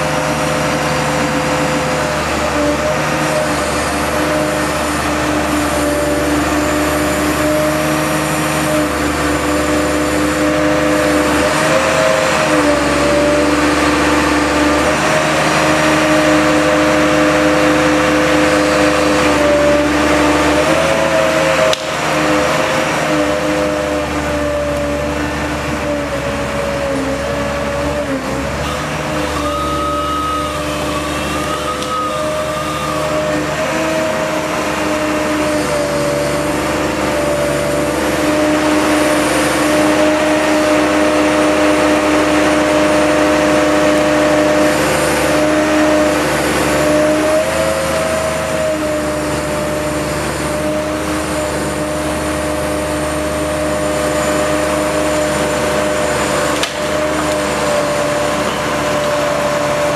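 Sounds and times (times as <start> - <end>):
crane engine and hydraulics whining: 0.0 - 59.9.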